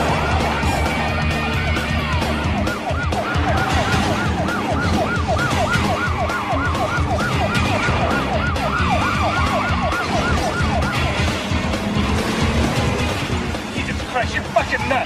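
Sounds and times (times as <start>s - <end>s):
police siren yelping: 0.0s - 12.1s.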